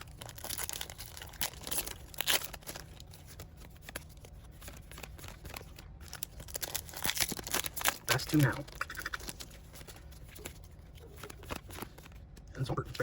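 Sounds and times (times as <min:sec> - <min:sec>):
wrapper crinkling and tearing: 0:00.0 - 0:12.2.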